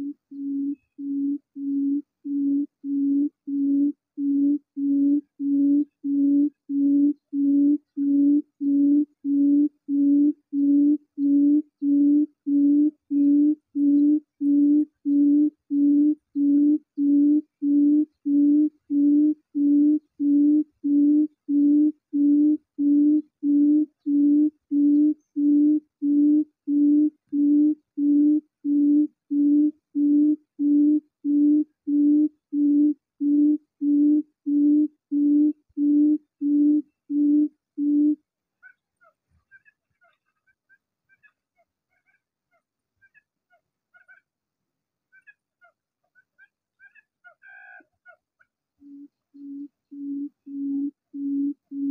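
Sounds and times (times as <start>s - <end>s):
recorded bird hoot from speaker: 0.0s - 38.8s, 48.8s - 51.9s.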